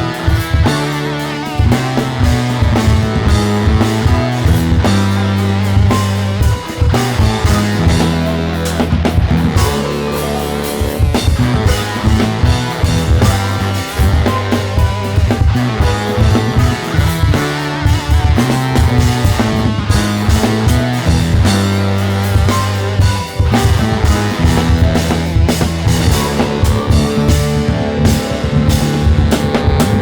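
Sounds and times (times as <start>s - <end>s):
bass notes: 0.0s - 30.0s
drum kit: 0.0s - 30.0s
guitar: 0.0s - 30.0s.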